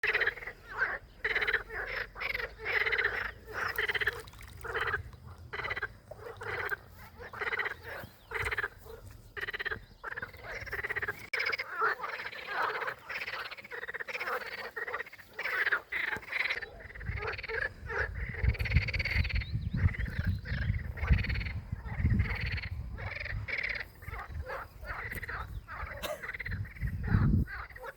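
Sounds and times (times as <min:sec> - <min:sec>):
frogs croaking: 0:00.0 - 0:27.9.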